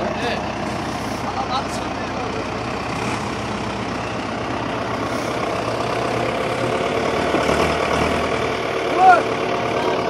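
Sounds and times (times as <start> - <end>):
tractor diesel engines running: 0.0 - 10.0.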